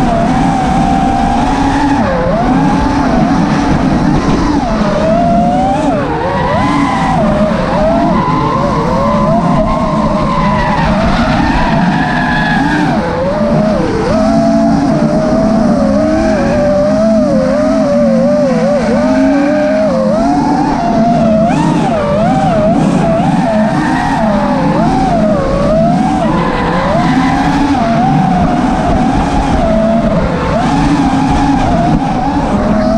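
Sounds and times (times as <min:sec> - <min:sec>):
car engine: 0:00.0 - 0:32.9
drone motors whining: 0:00.0 - 0:32.9.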